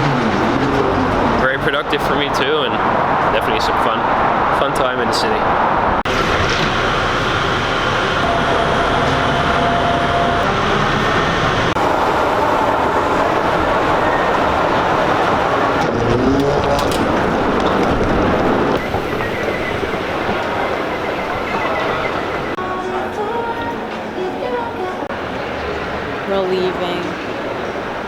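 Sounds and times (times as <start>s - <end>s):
train running rumble: 0.0s - 4.4s, 5.5s - 28.0s.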